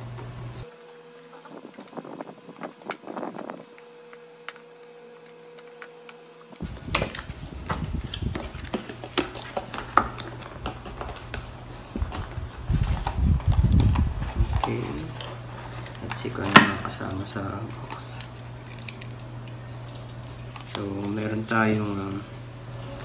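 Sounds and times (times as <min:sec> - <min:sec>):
faint steady hum: 0:00.0 - 0:23.0
cardboard packaging rustling: 0:00.6 - 0:21.7.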